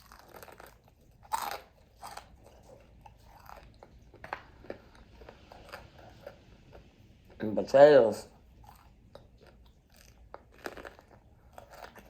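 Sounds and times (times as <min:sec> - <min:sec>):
chewing: 0:00.0 - 0:07.4, 0:08.3 - 0:12.0
crunching fried chicken: 0:00.0 - 0:07.5, 0:08.4 - 0:12.0.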